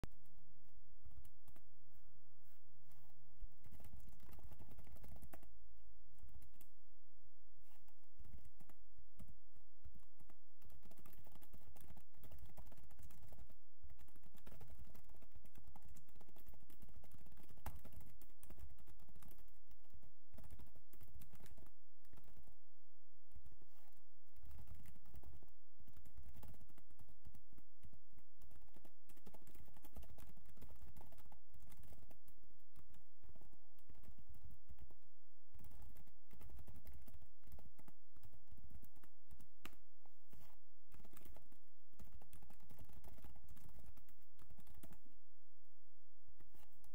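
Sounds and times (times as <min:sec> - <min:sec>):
computer keyboard typing: 0:01.0 - 0:01.7, 0:02.9 - 0:05.5, 0:07.6 - 0:22.6, 0:23.4 - 0:45.1, 0:46.4 - 0:46.9.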